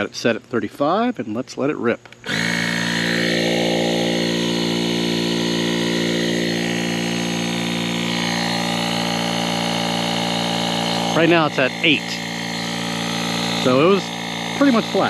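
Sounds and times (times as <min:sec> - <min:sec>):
small air compressor running: 0:02.2 - 0:15.0.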